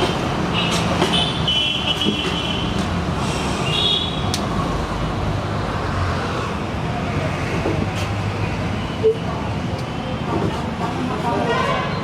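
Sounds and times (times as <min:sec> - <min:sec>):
busy road traffic: 0:00.0 - 0:12.0.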